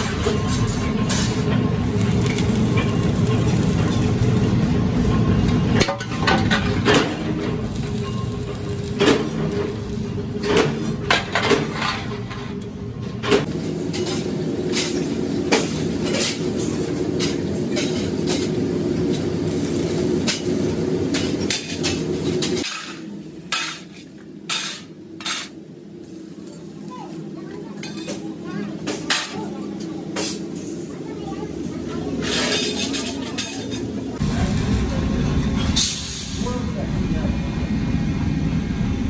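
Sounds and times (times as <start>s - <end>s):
welding arc buzzing: 1.0s - 11.8s, 13.4s - 33.4s, 34.0s - 35.2s.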